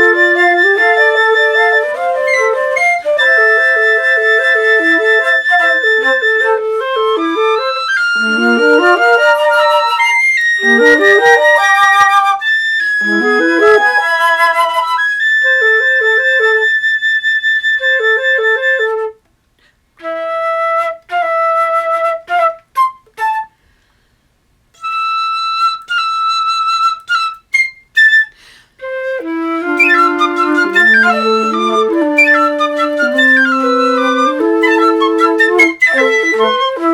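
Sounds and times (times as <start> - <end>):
flutes playing chamber music: 0.0 - 19.2, 20.0 - 23.6, 24.8 - 36.9.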